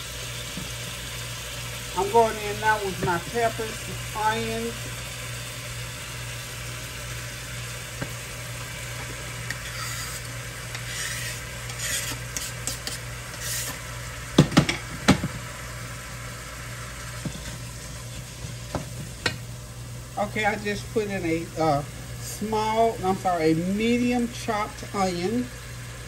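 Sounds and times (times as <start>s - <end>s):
meat sizzling in a pot: 0.0s - 26.0s.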